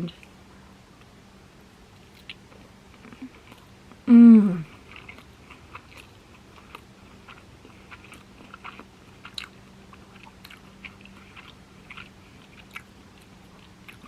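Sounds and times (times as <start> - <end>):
wet chewing mouth clicks: 2.1 - 4.0, 4.6 - 14.0.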